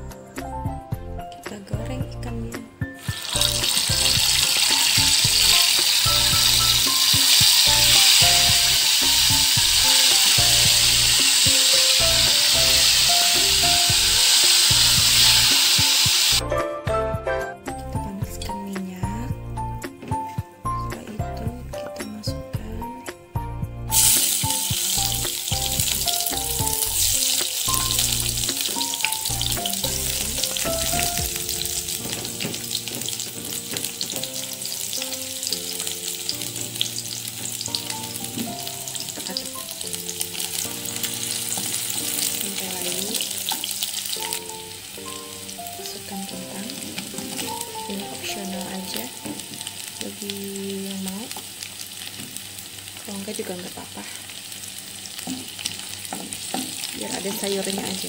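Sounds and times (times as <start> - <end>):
background music: 0.0 - 51.8, 55.2 - 58.0
shallots sizzling in hot oil: 3.0 - 16.4, 23.9 - 58.0.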